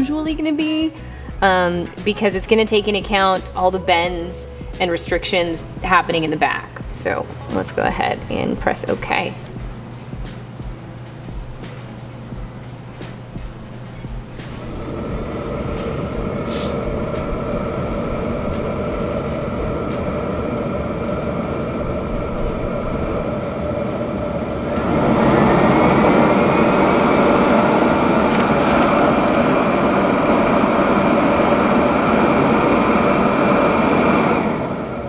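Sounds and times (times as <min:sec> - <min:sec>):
fume extractor blowers humming: 0:00.0 - 0:35.0.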